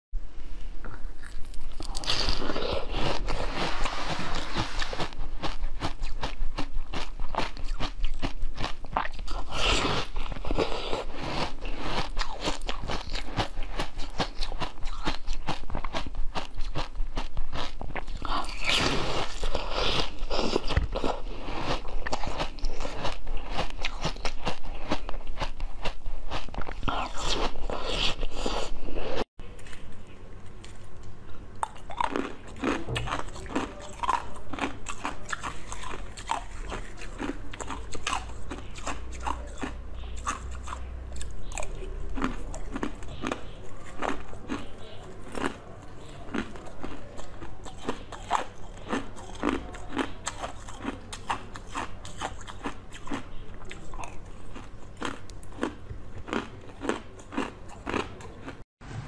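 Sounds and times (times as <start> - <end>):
crunchy biting and chewing: 0.8 - 58.6.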